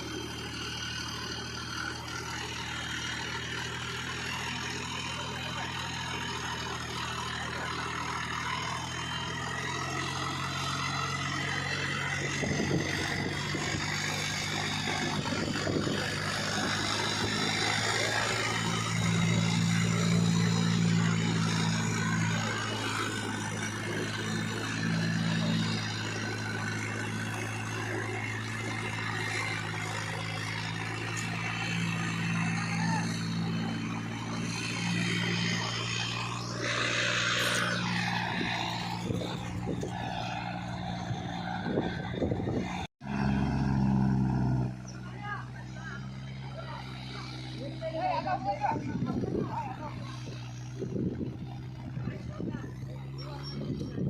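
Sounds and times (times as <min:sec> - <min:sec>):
tractor diesel engine drone: 0:00.0 - 0:54.0.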